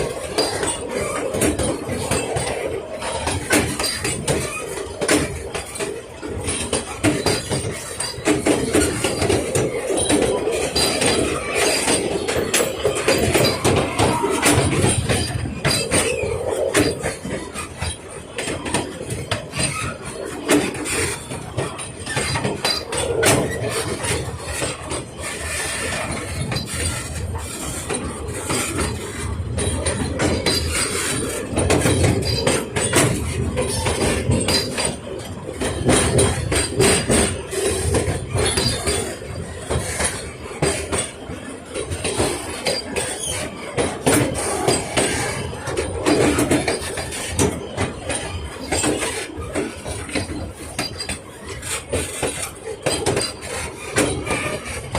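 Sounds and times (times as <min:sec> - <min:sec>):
carriages rattling: 0:00.0 - 0:54.9
train rumble: 0:00.0 - 0:54.9
train wheels clicking over rail joints: 0:00.0 - 0:54.9.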